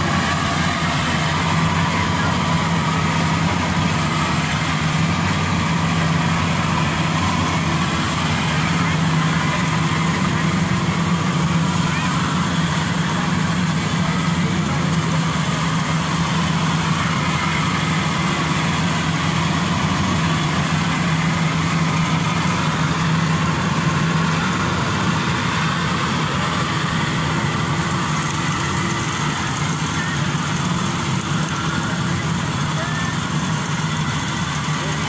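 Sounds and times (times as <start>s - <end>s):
harvester engine drone: 0.0s - 35.0s
machinery noise: 0.0s - 35.0s.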